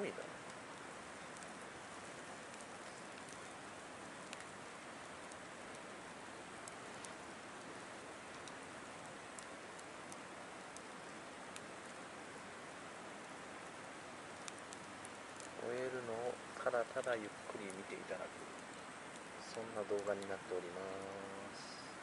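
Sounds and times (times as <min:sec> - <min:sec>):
campfire crackling and hissing: 0:00.0 - 0:22.0.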